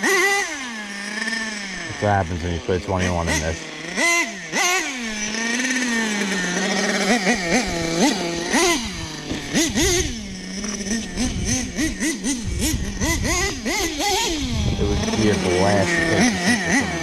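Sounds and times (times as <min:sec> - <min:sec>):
model engine revving: 0:00.0 - 0:17.0.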